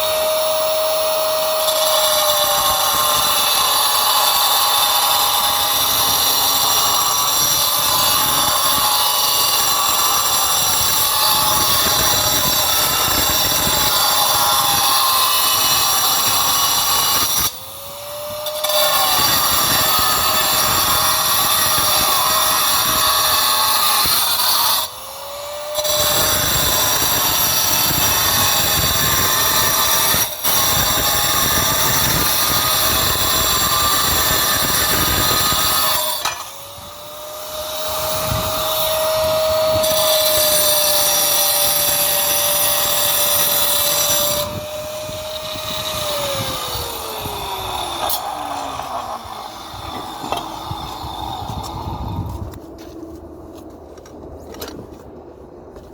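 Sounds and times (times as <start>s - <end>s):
disc grinder cutting tile: 0.0s - 17.6s, 18.3s - 52.3s.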